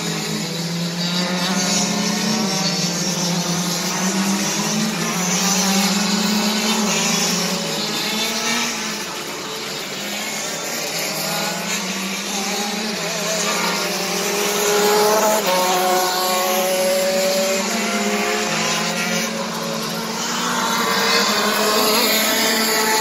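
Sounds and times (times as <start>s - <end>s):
kart engine accelerating: 0.0s - 23.0s
kart engines running: 0.0s - 23.0s.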